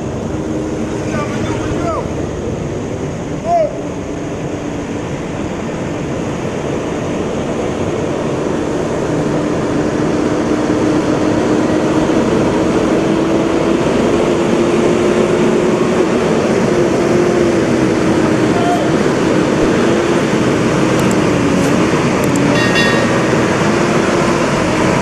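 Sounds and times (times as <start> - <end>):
heavy truck engine under load: 0.0 - 25.0.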